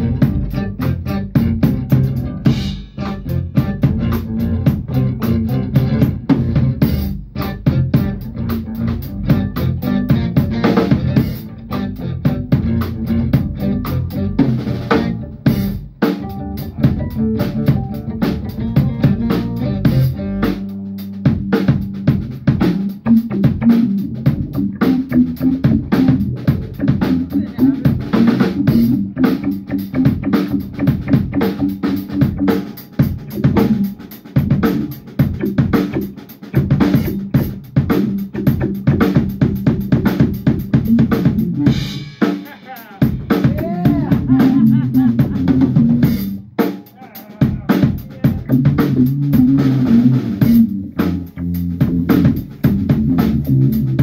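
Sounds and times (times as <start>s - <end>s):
band playing instrumental: 0.0s - 54.0s
bass line: 0.0s - 54.0s
drum kit beat: 0.0s - 54.0s.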